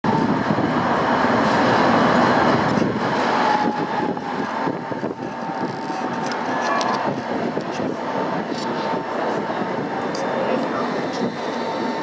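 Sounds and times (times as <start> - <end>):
tram wheels and motor rumbling: 0.0 - 12.0.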